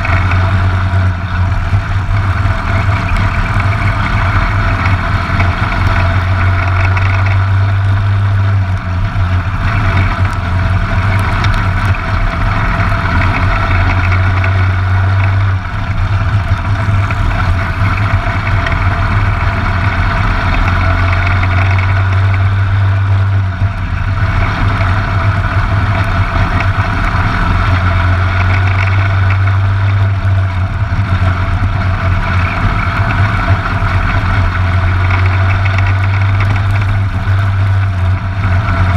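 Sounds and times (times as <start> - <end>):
kart engine droning: 0.0 - 38.9.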